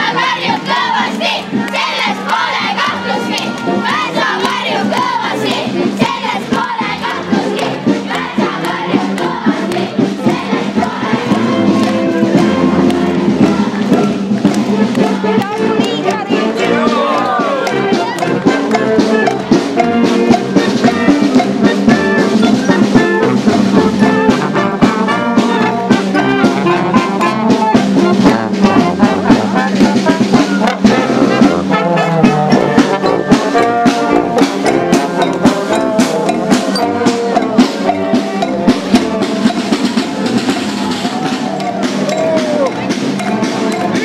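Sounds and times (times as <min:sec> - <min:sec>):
marching brass band playing: 0:00.0 - 0:44.0
snare drum beat: 0:00.0 - 0:44.0.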